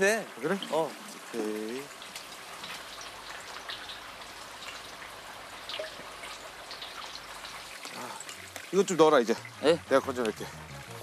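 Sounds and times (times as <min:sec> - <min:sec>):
pork deep-frying in hot oil: 0:00.0 - 0:11.0.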